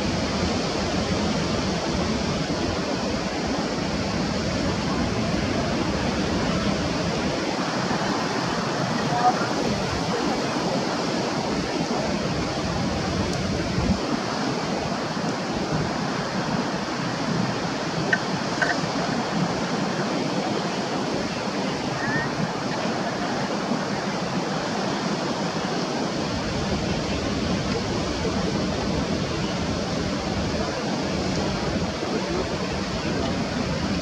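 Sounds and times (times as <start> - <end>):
falling water rushing: 0.0 - 34.0.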